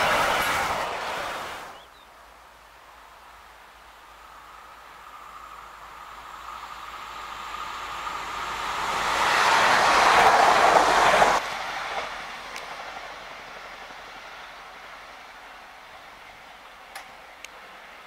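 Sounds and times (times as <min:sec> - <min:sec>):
another train approaching: 0:00.0 - 0:01.8, 0:04.2 - 0:18.0
train passing at speed: 0:00.0 - 0:02.0, 0:02.9 - 0:18.0.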